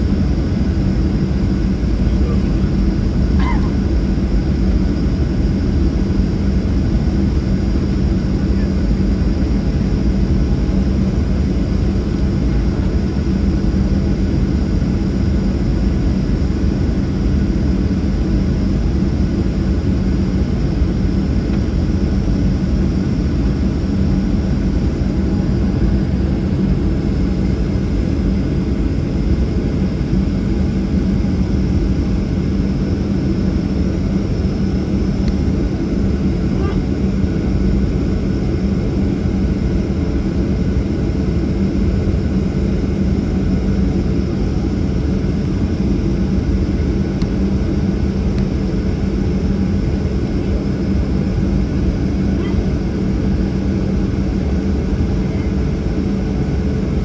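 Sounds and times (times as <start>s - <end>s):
jet engines taxiing from cabin: 0.0s - 57.0s.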